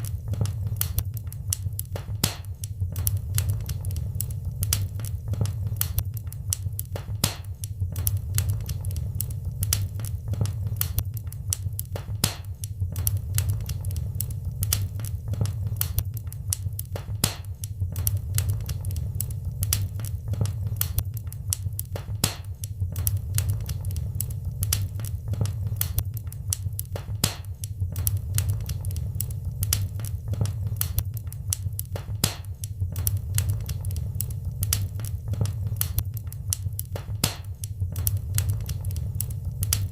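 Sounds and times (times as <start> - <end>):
wood fire crackling in fireplace: 0.0 - 39.9.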